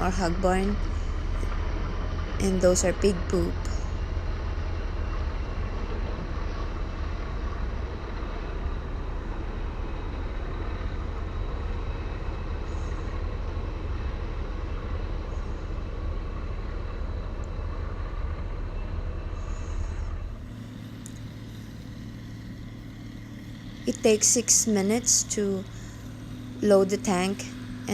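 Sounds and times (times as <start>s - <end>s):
diesel tractor engine rumbling: 0.0s - 27.9s.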